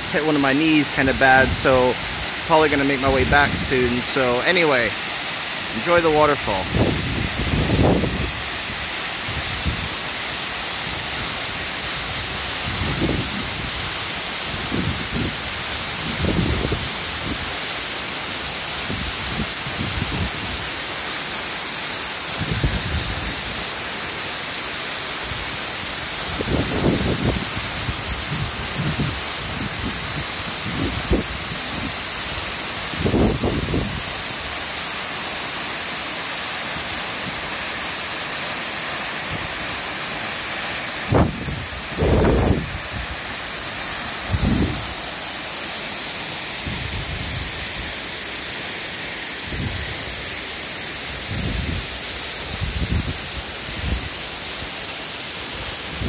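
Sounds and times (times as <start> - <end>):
waterfall rushing onto boulders: 0.0 - 56.0.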